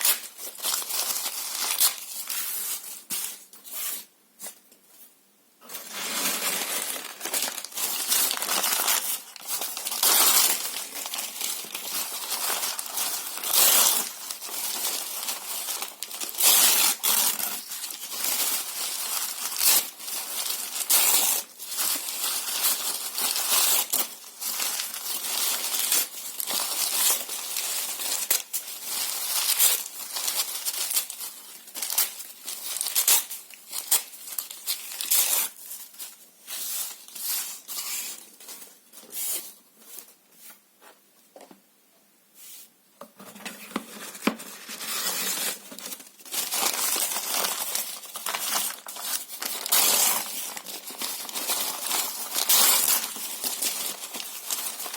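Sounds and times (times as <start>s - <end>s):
paper tearing and crumpling: 0.0s - 3.3s, 5.7s - 35.7s, 43.9s - 54.9s.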